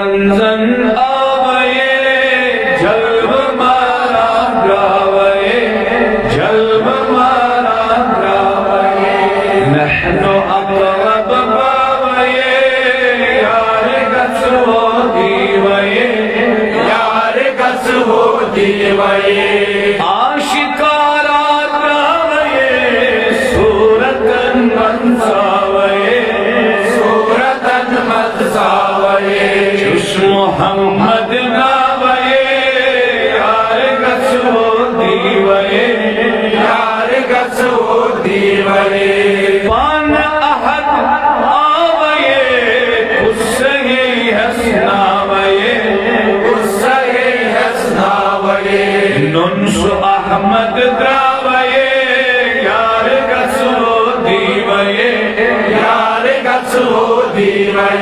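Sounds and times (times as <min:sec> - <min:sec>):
man chanting devotional poetry: 0:00.0 - 0:58.0.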